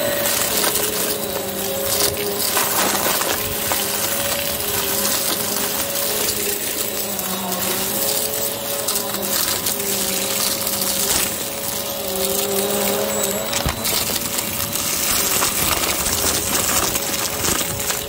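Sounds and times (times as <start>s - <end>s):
debris rattling through nozzle: 0.0s - 18.0s
vacuum cleaner humming: 0.0s - 18.0s.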